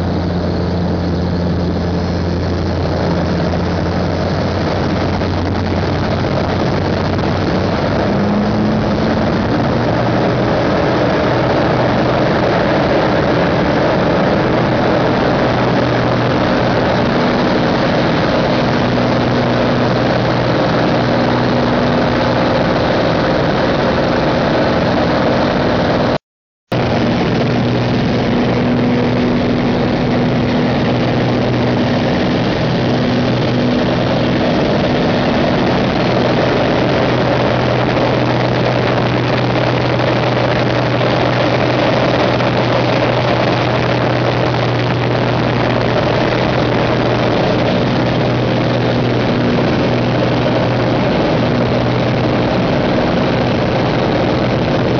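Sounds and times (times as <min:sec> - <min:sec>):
airplane engine and propeller drone: 0:00.0 - 0:54.9
heavy wind rush: 0:00.0 - 0:54.9.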